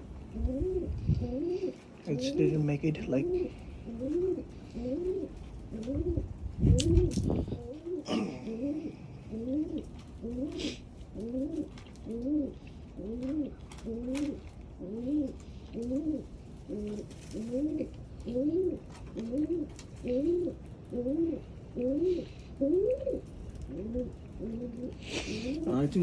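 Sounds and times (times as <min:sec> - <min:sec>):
pigeon cooing: 0:00.0 - 0:26.0.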